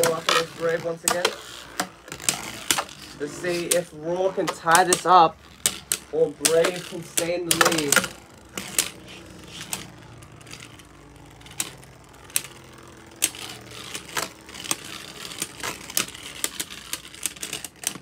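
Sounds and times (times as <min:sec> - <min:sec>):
spinning tops clacking together: 0:00.0 - 0:18.0
spinning tops whirring: 0:00.0 - 0:18.0.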